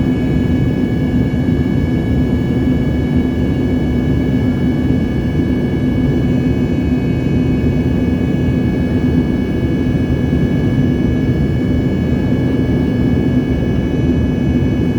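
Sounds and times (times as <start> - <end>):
airliner engines rumbling: 0.0 - 14.9.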